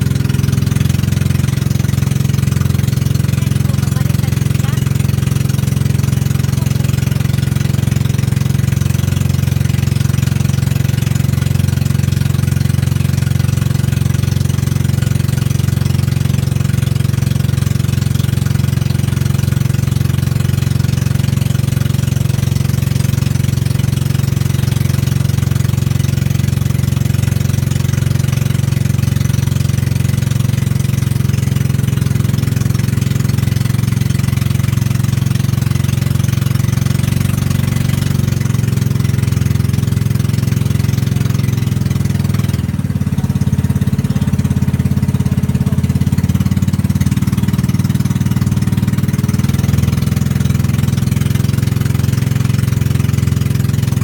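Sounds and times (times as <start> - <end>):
motorboat engine droning: 0.0 - 54.0.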